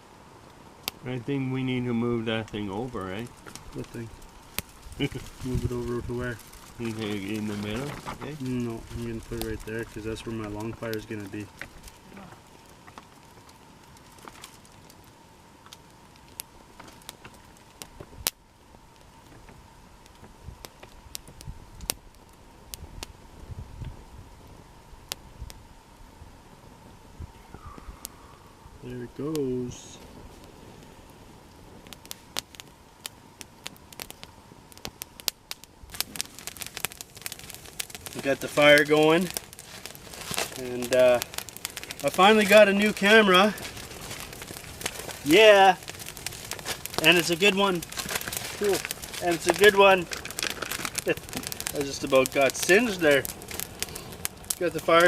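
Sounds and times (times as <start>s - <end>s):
campfire wood crackling: 0.0s - 55.0s.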